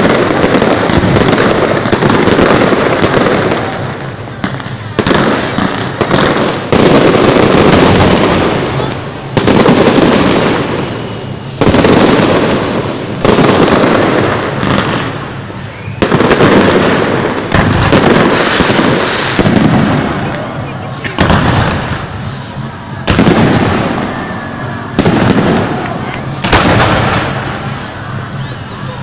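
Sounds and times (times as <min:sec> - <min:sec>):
fireworks bangs and crackle: 0:00.0 - 0:29.0.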